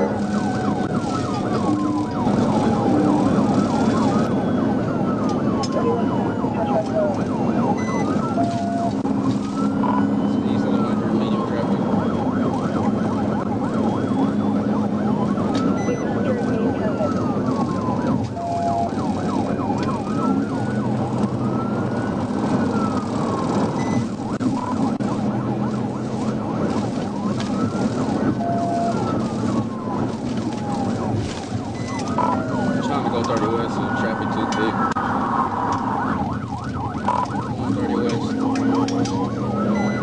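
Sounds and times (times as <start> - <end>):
car engine and road noise: 0.0 - 40.0
police siren wailing: 0.0 - 40.0.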